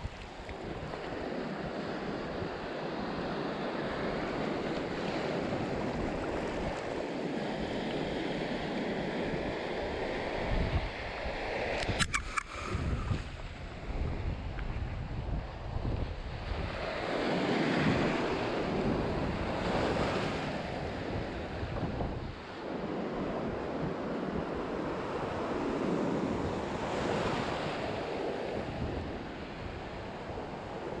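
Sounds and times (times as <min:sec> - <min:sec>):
sea surf washing: 0:00.0 - 0:31.0
wind buffeting microphone: 0:03.9 - 0:31.0.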